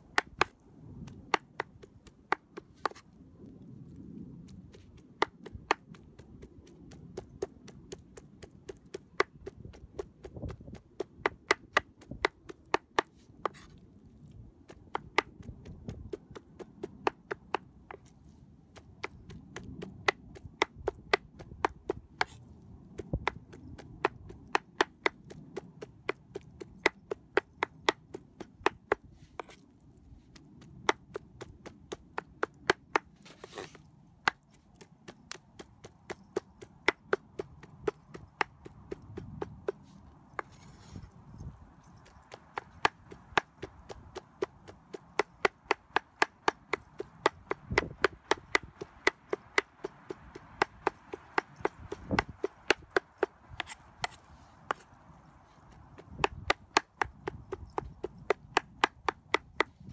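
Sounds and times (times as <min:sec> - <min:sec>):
cleaver chopping meat on wood: 0:00.0 - 0:03.0, 0:05.0 - 0:13.6, 0:14.7 - 0:18.1, 0:18.8 - 0:22.4, 0:23.0 - 0:29.6, 0:30.8 - 0:39.8, 0:42.0 - 0:54.8, 0:55.7 - 0:59.9.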